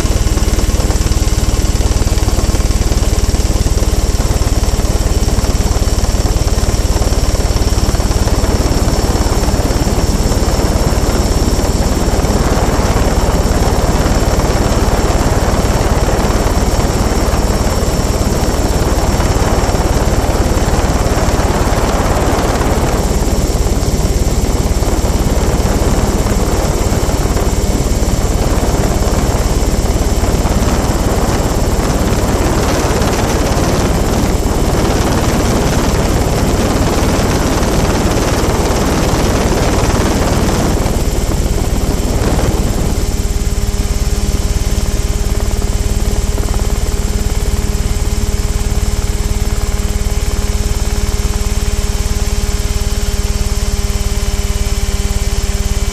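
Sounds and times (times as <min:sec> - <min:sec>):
helicopter engine and rotor: 0:00.0 - 0:55.9.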